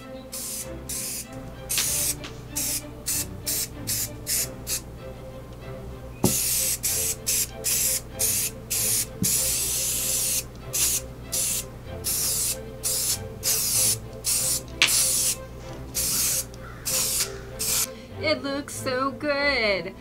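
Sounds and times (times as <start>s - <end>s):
spray paint can hissing: 0.3s - 4.8s, 6.2s - 17.9s.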